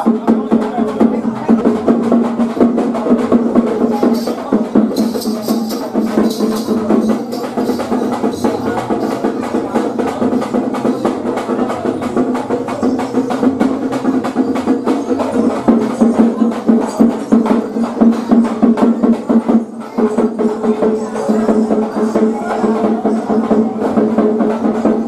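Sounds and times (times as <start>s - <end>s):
fast dense drumming: 0.0s - 25.0s.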